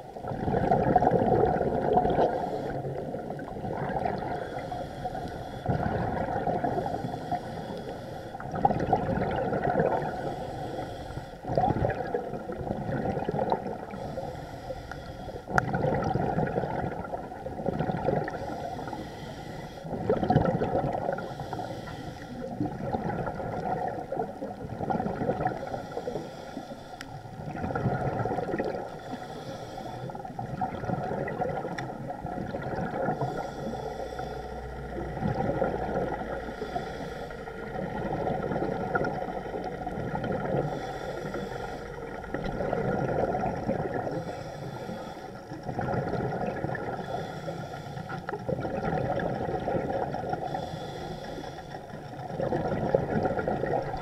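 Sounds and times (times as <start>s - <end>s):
bubbling and gurgling: 0.0s - 14.2s, 15.4s - 19.0s, 19.8s - 21.6s, 22.3s - 26.2s, 27.2s - 29.2s, 30.0s - 33.8s, 34.6s - 36.8s, 37.5s - 47.2s, 48.0s - 54.0s
diver breathing underwater: 0.2s - 54.0s.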